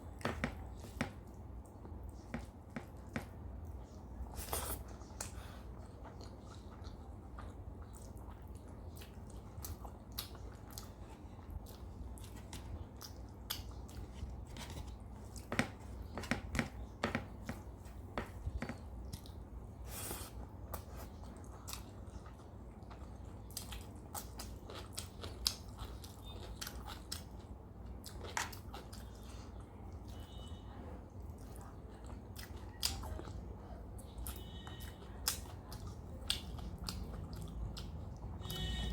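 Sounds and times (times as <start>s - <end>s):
chewing and eating: 0.0s - 38.9s.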